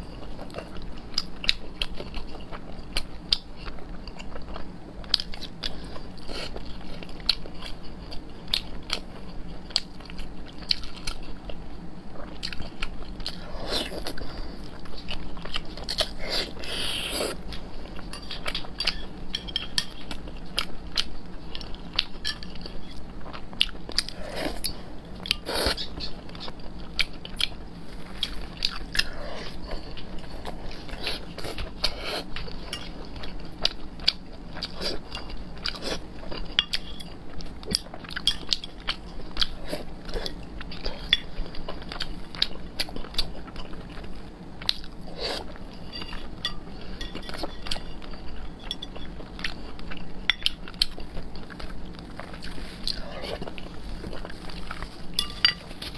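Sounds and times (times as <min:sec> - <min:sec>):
biting and chewing pork: 0:00.0 - 0:55.9.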